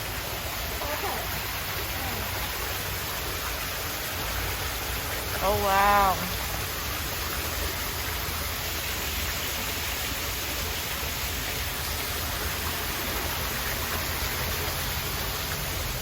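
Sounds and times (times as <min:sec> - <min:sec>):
waterfall splashing into pond: 0:00.0 - 0:16.0.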